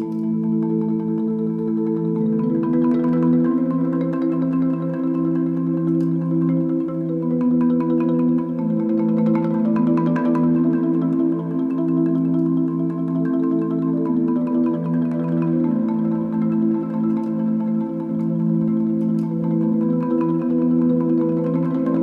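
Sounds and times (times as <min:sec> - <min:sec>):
marimba rolled chords: 0:00.0 - 0:22.0.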